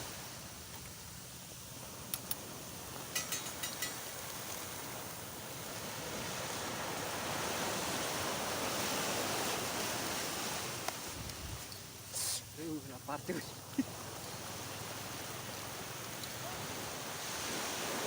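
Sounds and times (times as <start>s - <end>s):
waves washing onto a beach: 0.0s - 18.0s.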